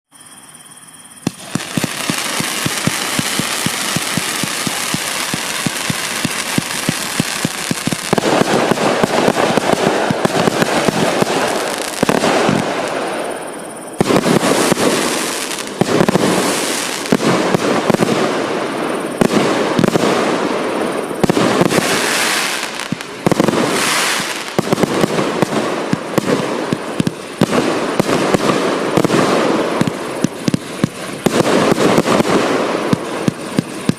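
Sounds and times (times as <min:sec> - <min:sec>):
fireworks firing rapid shots: 0:01.2 - 0:33.9.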